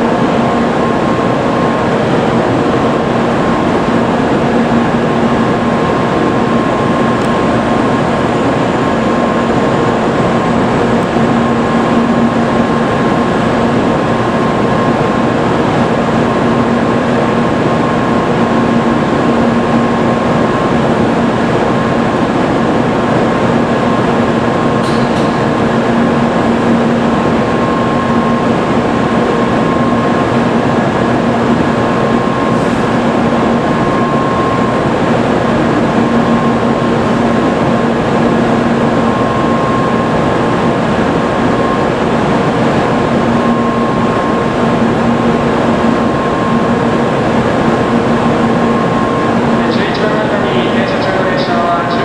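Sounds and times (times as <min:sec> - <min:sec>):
train equipment whir and hum: 0:00.0 - 0:52.0.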